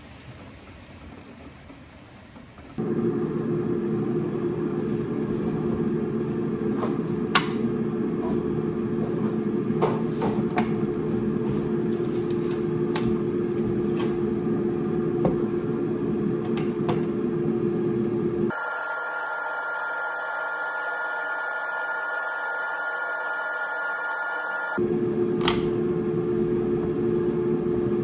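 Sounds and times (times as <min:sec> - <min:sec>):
air fryer fan humming: 0:00.0 - 0:28.0.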